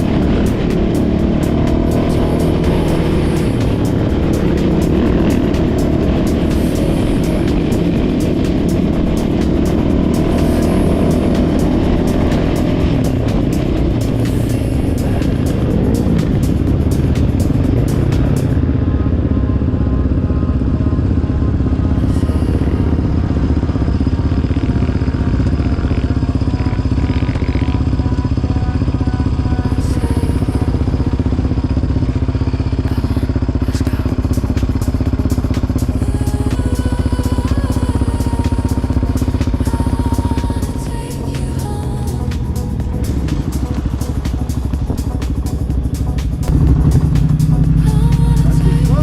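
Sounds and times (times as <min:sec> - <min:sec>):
quad engine running: 0:00.0 - 0:49.0.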